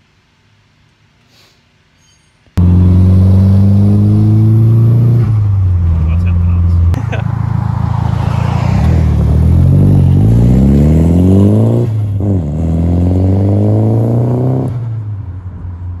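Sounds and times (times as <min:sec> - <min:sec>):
car engine accelerating hard: 0:02.6 - 0:16.0.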